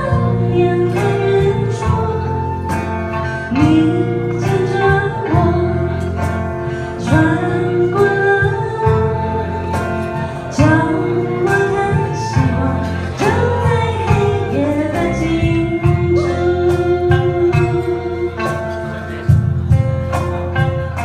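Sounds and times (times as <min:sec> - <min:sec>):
woman singing: 0:00.0 - 0:19.4
band playing slow song: 0:00.0 - 0:21.0
flute melody: 0:00.0 - 0:21.0.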